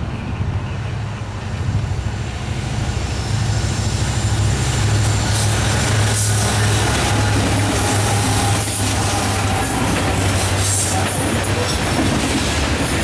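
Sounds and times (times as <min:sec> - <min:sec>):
diesel locomotive engine drone: 0:00.0 - 0:13.0
wheel-on-rail noise: 0:00.0 - 0:13.0.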